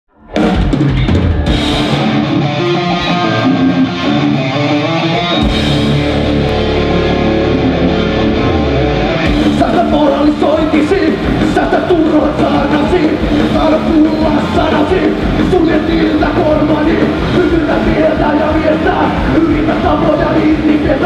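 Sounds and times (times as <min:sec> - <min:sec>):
drum kit: 0:00.2 - 0:21.0
electric guitars: 0:00.2 - 0:21.0.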